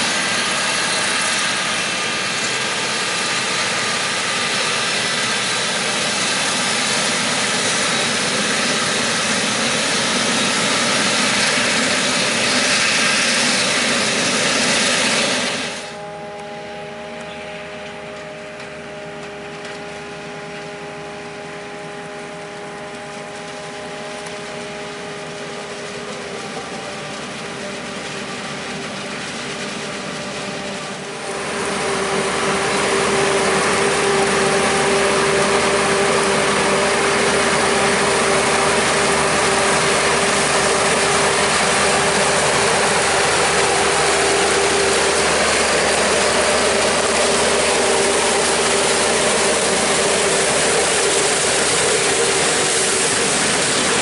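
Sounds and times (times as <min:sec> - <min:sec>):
dense rushing hiss: 0:00.0 - 0:16.0, 0:25.2 - 0:54.0
forage harvester drone and whine: 0:00.0 - 0:54.0
tractor engine: 0:00.0 - 0:54.0.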